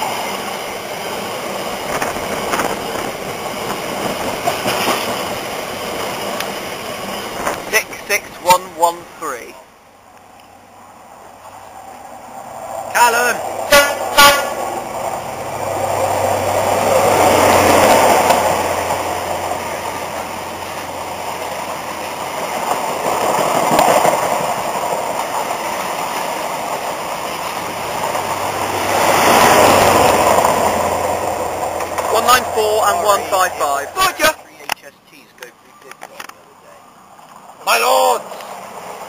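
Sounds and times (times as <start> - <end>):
diesel engines: 0.0 - 39.0
train wheels rushing on rail: 0.0 - 39.0.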